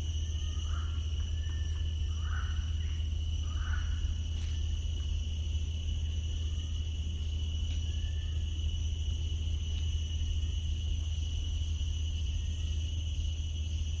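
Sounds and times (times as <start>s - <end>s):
constant low rumble: 0.0s - 14.0s
insect chorus: 0.0s - 14.0s.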